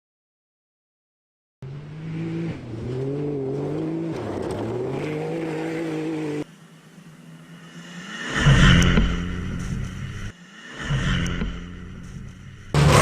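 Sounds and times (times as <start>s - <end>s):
rally car engine accelerating: 1.6s - 13.0s.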